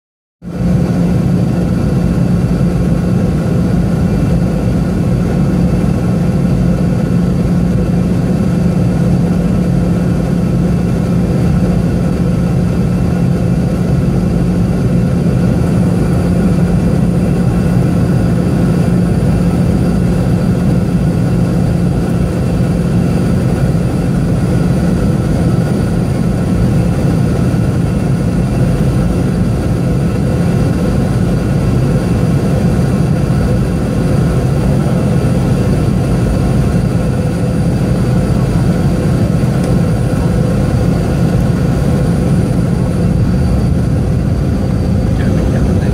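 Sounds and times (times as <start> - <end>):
airflow roar in aircraft cabin: 0.4 - 45.9
jet engine drone: 0.4 - 45.9
low hum: 0.5 - 45.9.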